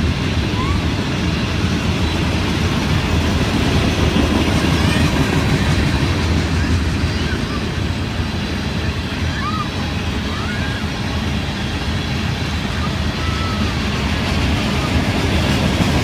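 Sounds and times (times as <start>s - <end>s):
freight train rumble: 0.0s - 16.0s
steel wheels clattering over rails: 0.0s - 16.0s.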